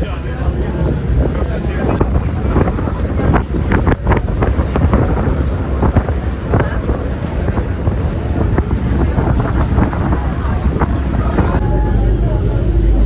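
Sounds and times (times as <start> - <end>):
ferry engine rumble: 0.0 - 13.0
water: 0.0 - 13.0
wind buffeting microphone: 0.0 - 13.0.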